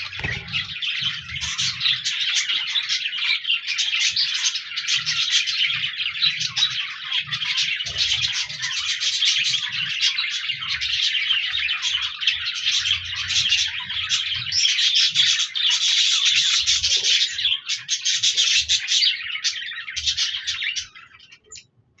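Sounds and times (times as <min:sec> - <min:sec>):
budgerigars chirping and warbling: 0:00.0 - 0:21.8.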